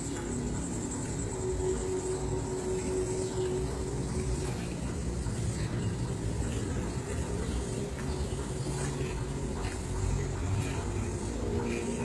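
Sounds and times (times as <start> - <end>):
low rumble of cars: 0.0 - 12.0.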